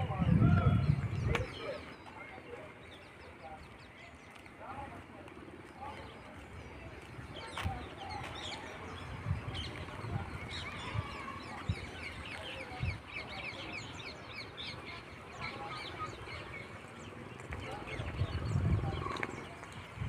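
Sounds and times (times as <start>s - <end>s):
birds chirping in chorus: 0.0s - 20.0s.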